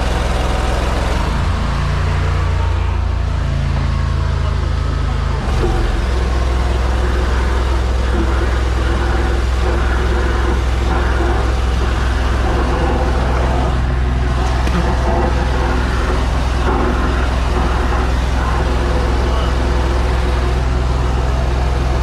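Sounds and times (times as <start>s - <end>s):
drain jetting machine running: 0.0s - 22.0s.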